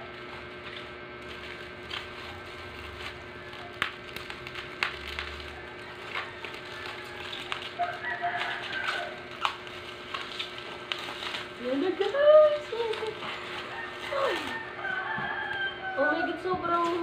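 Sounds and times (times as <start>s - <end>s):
plastic packaging crinkling: 0.0s - 15.7s.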